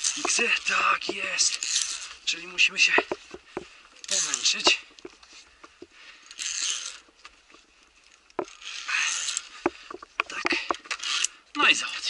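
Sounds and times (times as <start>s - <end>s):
carabiners clinking on steel cable: 0.0s - 12.0s.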